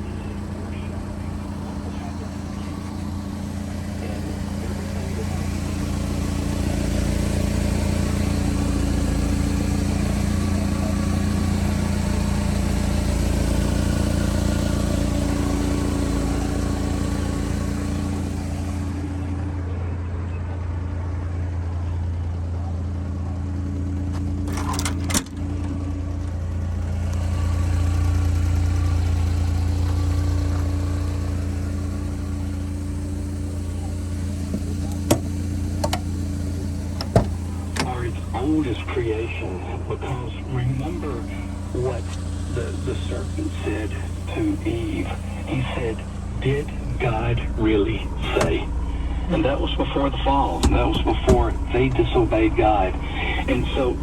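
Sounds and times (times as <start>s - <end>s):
truck engine humming: 0.0s - 54.0s.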